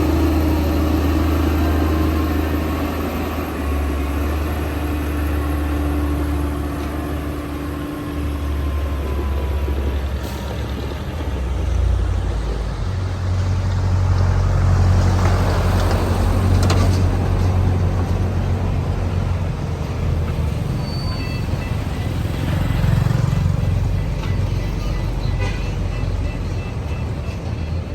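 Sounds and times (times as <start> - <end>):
bulldozer diesel engine running: 0.0 - 27.9.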